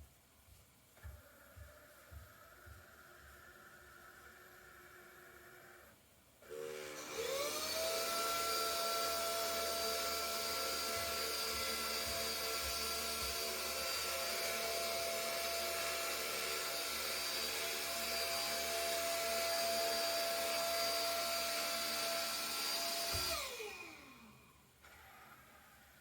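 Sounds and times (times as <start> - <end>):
vacuum cleaner motor whine: 1.0 - 26.0.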